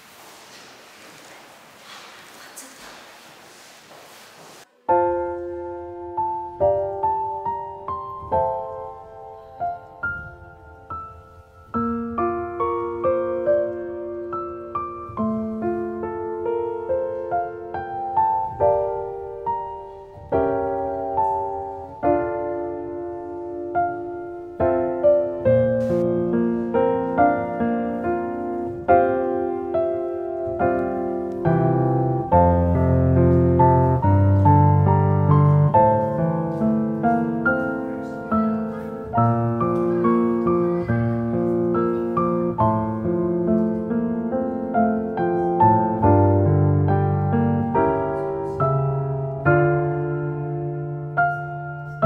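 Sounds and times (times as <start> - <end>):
slow piano music: 4.6 - 52.0.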